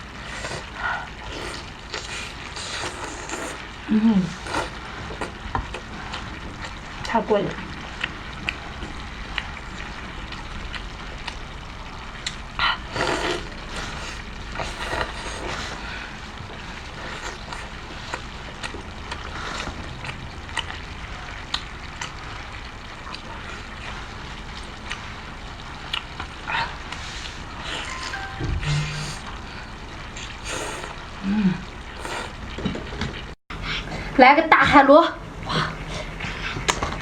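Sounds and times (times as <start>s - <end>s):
chewing shellfish: 0.0s - 7.1s, 7.7s - 34.0s.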